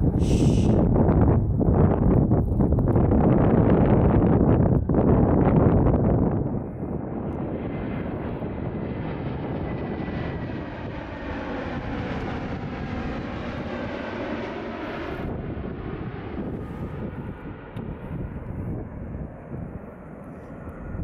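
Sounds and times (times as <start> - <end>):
jet engines rushing with high whine: 0.0 - 21.0.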